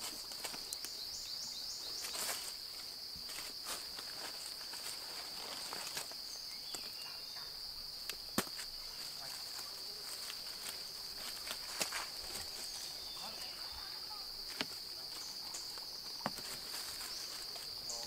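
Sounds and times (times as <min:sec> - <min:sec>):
insects droning: 0:00.0 - 0:18.0
dry leaves rustling: 0:01.8 - 0:07.0, 0:08.5 - 0:18.0.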